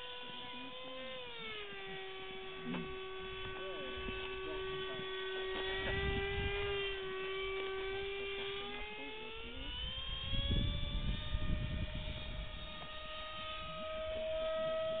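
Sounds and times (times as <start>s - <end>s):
model airplane motor whining: 0.0s - 15.0s
wind rumble on microphone: 2.4s - 15.0s.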